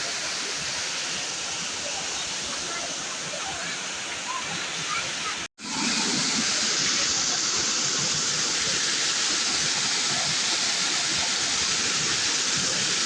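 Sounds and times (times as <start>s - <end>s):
small waterfall pouring: 0.0s - 13.0s.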